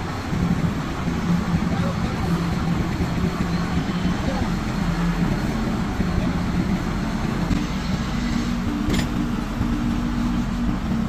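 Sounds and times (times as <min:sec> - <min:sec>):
crane engine running: 0:00.0 - 0:11.0.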